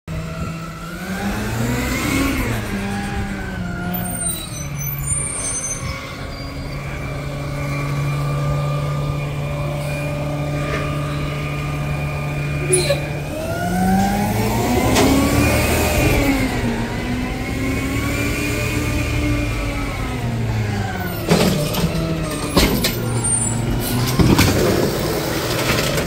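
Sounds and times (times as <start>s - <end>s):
diesel truck engine revving: 0.1s - 26.0s.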